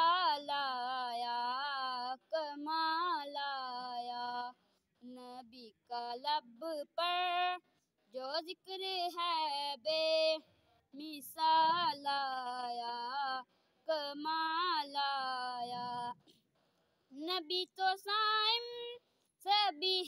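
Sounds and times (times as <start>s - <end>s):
boy singing unaccompanied: 0.0s - 16.2s, 17.2s - 20.0s.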